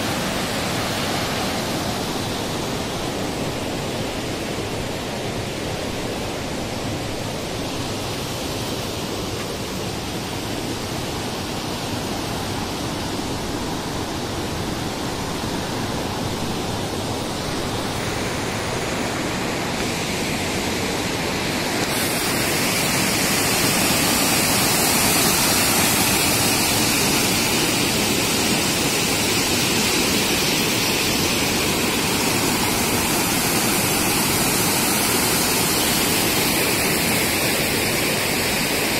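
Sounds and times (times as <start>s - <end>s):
waterfall rushing over rocks: 0.0s - 38.9s.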